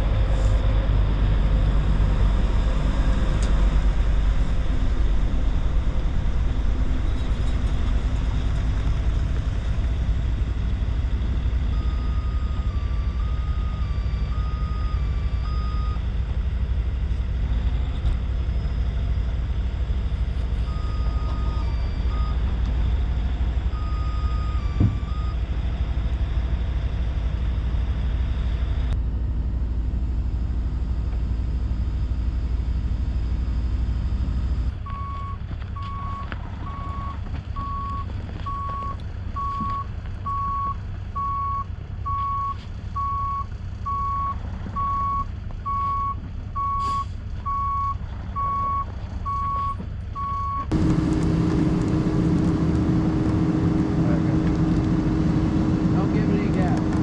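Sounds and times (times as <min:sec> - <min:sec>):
truck reversing alarm beeping: 0:00.0 - 0:29.0, 0:30.0 - 0:51.8
truck diesel engine rumbling: 0:00.0 - 0:57.0.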